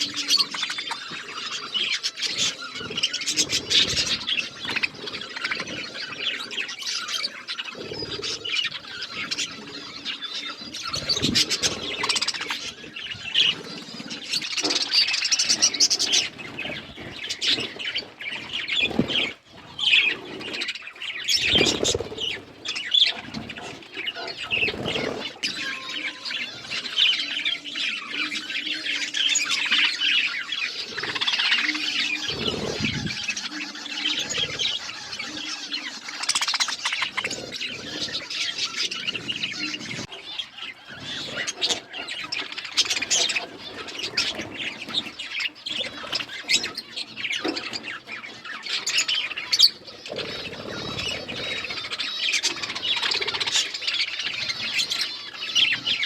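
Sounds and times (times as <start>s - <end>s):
wing flutters: 0.0s - 25.9s, 30.8s - 56.0s
budgerigars chirping: 0.0s - 56.0s.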